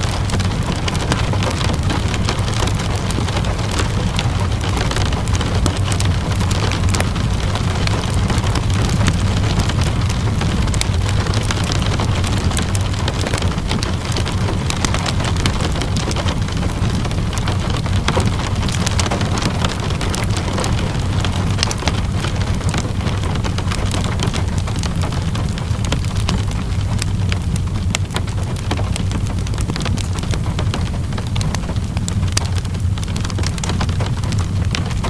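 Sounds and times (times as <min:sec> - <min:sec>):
deep low rumble: 0:00.0 - 0:35.0
steady rainfall: 0:00.0 - 0:35.0
wood fire crackling: 0:00.0 - 0:35.0.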